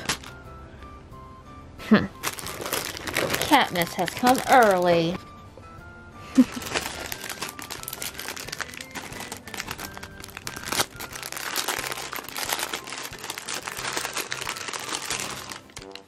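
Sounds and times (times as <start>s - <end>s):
plastic wrapping crinkling: 0.0s - 0.4s, 2.2s - 5.2s, 6.4s - 16.0s.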